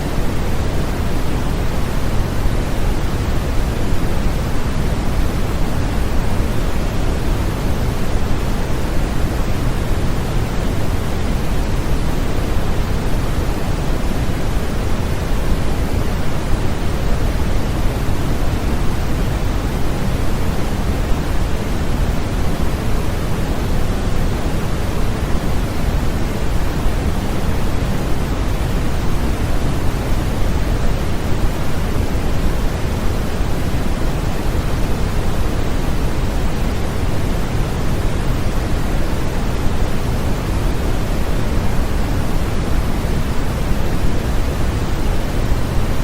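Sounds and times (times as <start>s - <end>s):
white noise hiss: 0.0s - 46.0s.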